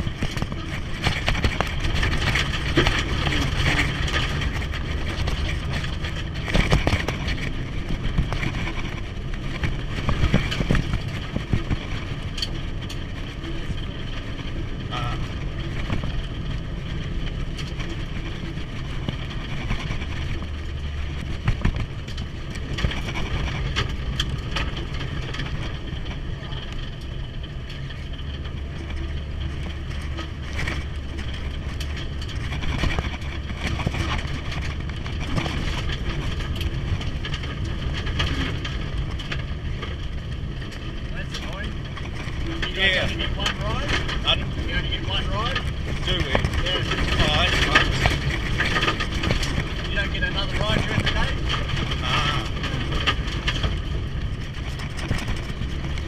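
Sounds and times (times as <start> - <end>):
car engine drone: 0.0 - 56.0
road noise: 0.0 - 56.0.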